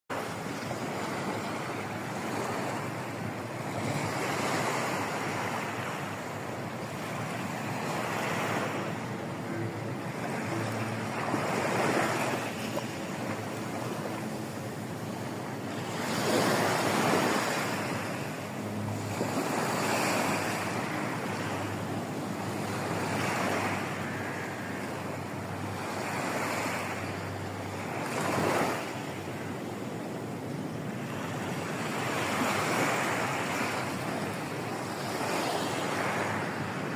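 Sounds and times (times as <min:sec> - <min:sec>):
ocean waves breaking on beach: 0:00.1 - 0:36.9.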